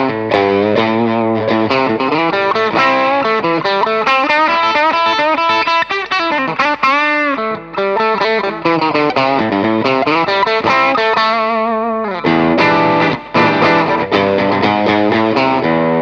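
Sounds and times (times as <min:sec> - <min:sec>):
distorted electric guitar lead: 0:00.0 - 0:16.0.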